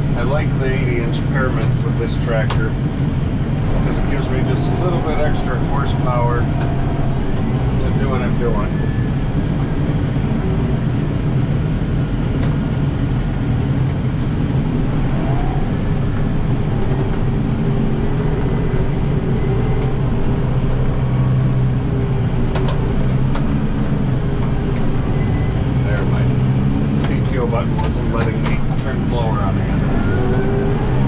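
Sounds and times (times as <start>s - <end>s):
tractor diesel engine droning: 0.0s - 31.0s.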